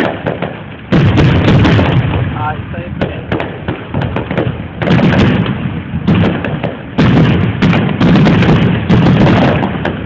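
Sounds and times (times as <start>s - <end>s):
fireworks booming: 0.0s - 10.0s.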